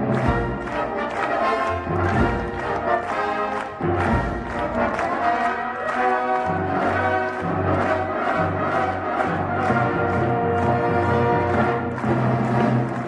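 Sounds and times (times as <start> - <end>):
live ensemble music: 0.0 - 13.0.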